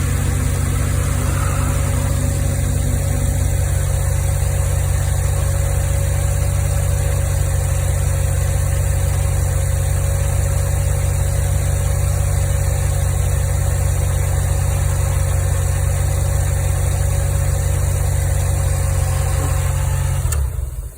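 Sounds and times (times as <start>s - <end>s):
rotary engine idling: 0.0s - 20.9s.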